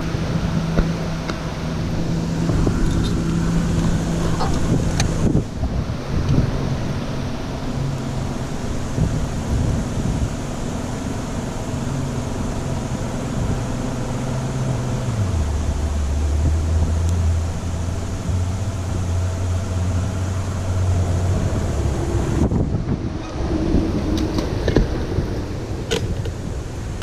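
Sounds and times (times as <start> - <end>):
boat motor running: 0.0 - 27.0
wind noise on microphone: 0.0 - 27.0.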